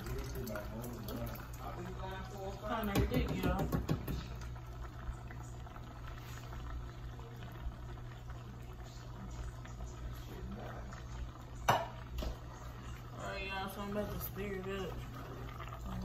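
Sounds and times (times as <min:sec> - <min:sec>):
water boiling in pot: 0:00.0 - 0:16.0.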